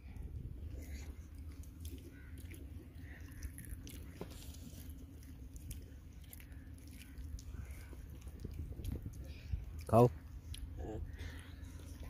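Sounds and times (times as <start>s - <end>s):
children chewing crispy fries: 0.2s - 12.0s.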